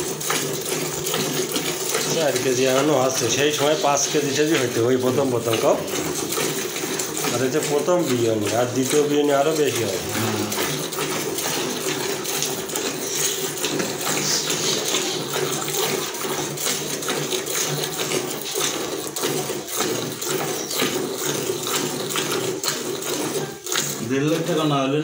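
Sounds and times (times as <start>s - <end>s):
milk squirting into pail: 0.0s - 25.0s.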